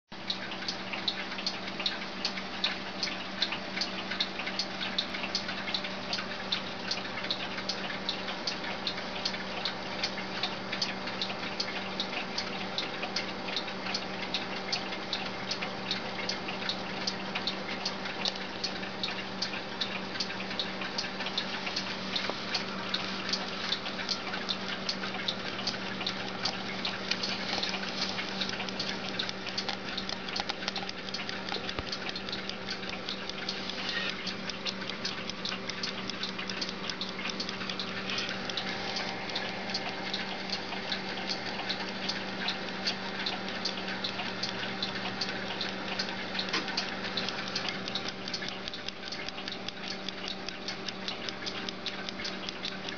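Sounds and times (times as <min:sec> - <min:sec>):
clock ticking rapidly: 0:00.1 - 0:52.9.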